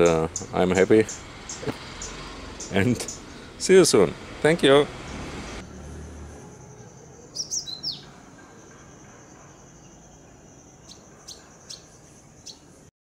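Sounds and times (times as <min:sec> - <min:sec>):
bird chirping: 0:00.0 - 0:03.6, 0:05.0 - 0:12.9.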